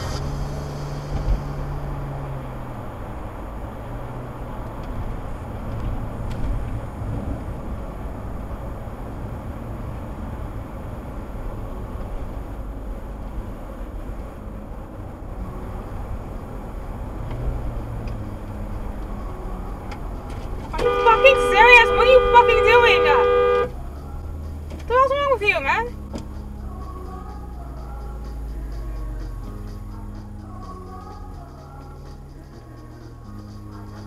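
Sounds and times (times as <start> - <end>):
low engine hum: 0.0 - 34.0
road and tyre rumble: 0.0 - 34.0.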